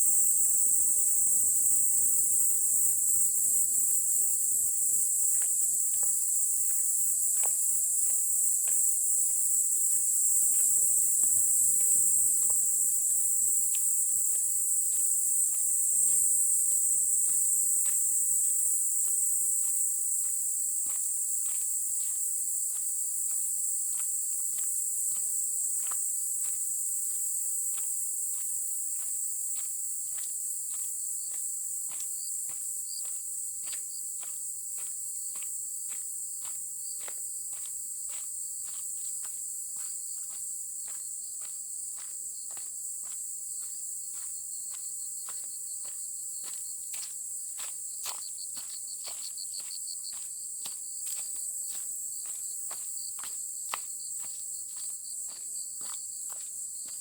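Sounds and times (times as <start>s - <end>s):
high-pitched insect chorus: 0.0s - 57.0s
footsteps walking: 5.3s - 57.0s.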